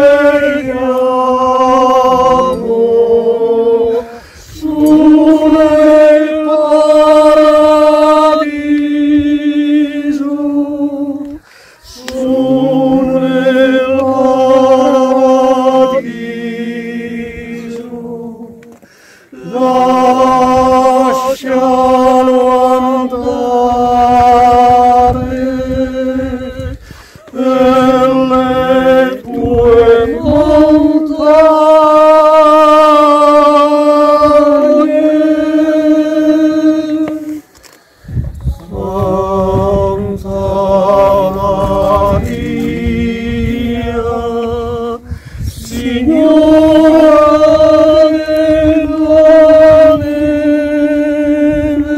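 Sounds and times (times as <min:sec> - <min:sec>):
group singing a cappella: 0:00.0 - 0:37.5, 0:38.4 - 0:51.9.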